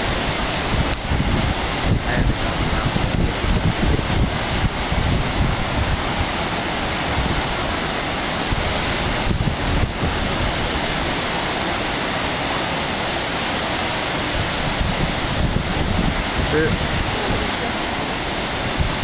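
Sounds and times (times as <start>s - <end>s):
wind buffeting microphone: 0.0s - 13.0s, 13.9s - 19.0s
heavy ocean surf: 0.0s - 19.0s.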